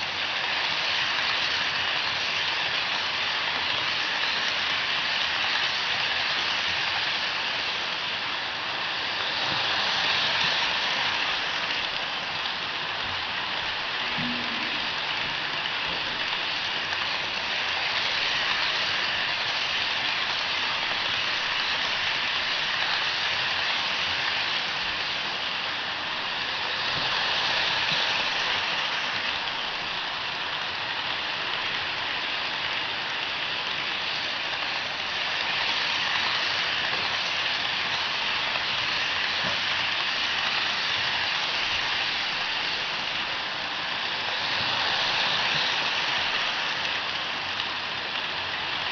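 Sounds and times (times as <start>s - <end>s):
model train running on track: 0.0s - 48.9s.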